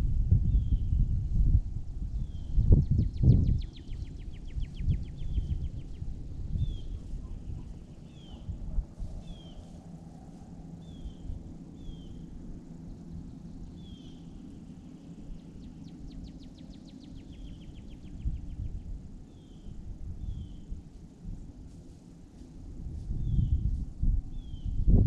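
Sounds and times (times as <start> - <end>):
wind buffeting microphone: 0.0 - 16.7, 17.4 - 21.9, 22.5 - 25.0.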